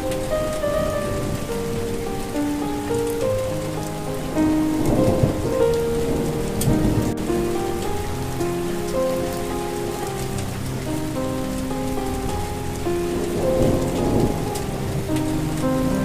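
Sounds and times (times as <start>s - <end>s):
soft slow melody: 0.0s - 16.0s
steady rain falling: 0.0s - 16.0s.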